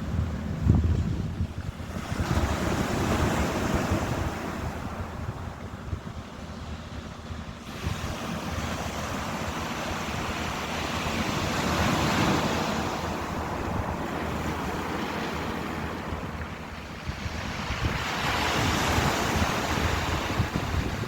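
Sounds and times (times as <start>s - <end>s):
ocean waves washing in: 0.0s - 21.0s.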